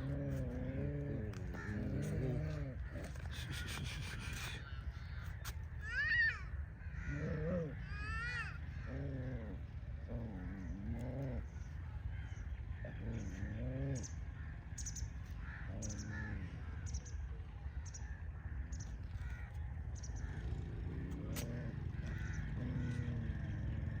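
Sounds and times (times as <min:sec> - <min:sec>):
drawn-out animal calls: 0:00.0 - 0:24.0.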